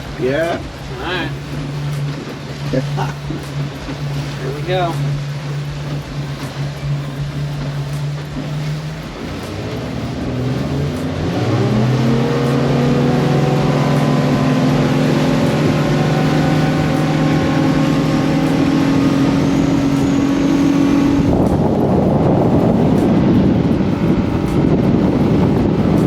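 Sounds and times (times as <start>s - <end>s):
motorboat engine accelerating: 0.0s - 26.0s
water rushing: 0.0s - 26.0s
wind: 0.0s - 26.0s.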